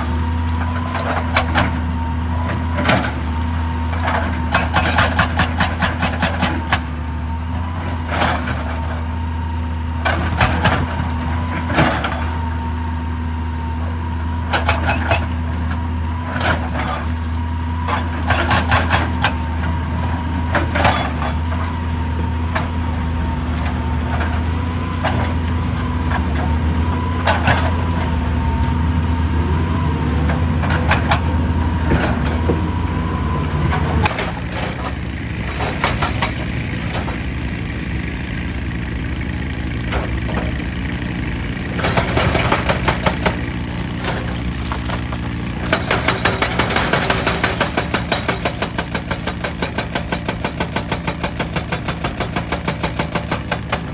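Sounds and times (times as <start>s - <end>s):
excavator diesel engine whining: 0.0s - 53.9s.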